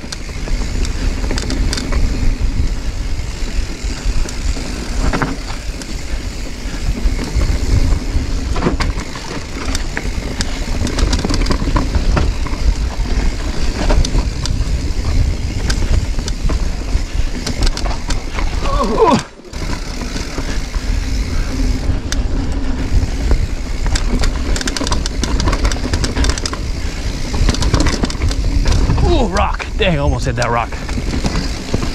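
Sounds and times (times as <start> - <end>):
bike rattling over rocks: 0.0 - 31.9
wind buffeting the microphone: 0.0 - 31.9.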